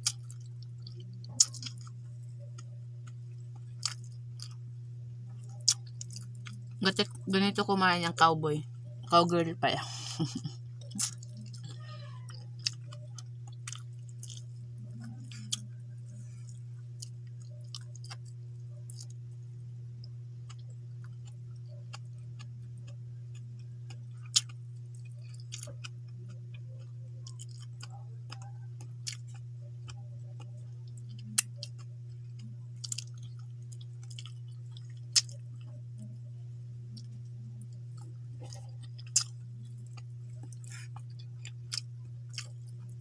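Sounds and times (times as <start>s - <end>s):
person chewing and smacking: 0.0s - 4.6s, 5.4s - 7.1s, 10.8s - 15.7s, 16.5s - 19.2s, 20.5s - 35.8s, 36.9s - 43.0s
steady low hum: 0.0s - 43.0s.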